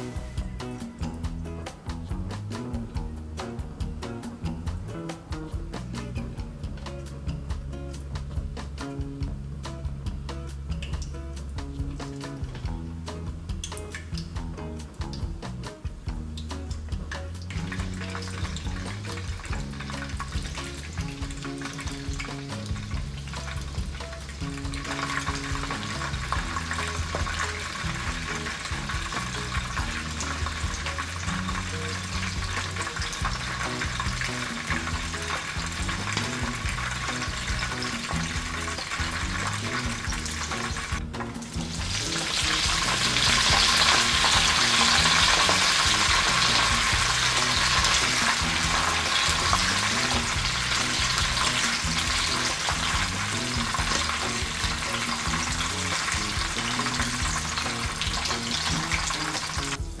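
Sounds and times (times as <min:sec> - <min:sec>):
prawns deep-frying in oil: 0:00.0 - 1:00.0.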